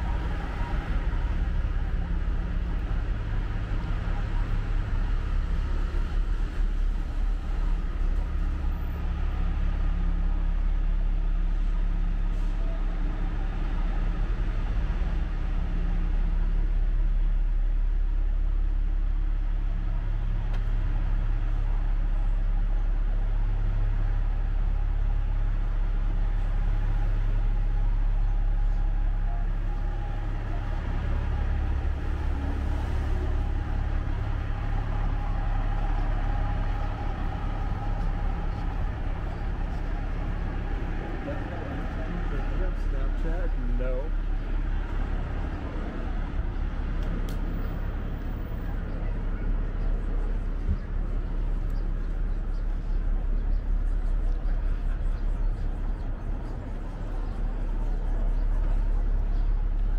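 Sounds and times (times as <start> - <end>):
city street traffic: 0.0 - 59.9
large vehicle engine droning: 0.0 - 59.9.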